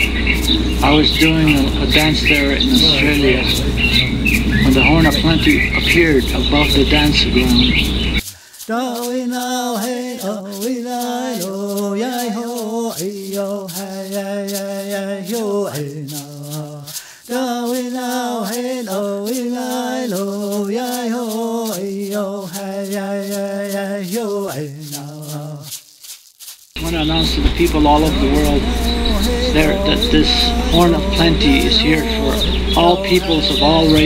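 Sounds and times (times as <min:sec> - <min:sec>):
person singing a slow chant: 0:00.0 - 0:07.8, 0:08.6 - 0:25.8, 0:26.8 - 0:34.0
rattle shaking: 0:00.0 - 0:34.0.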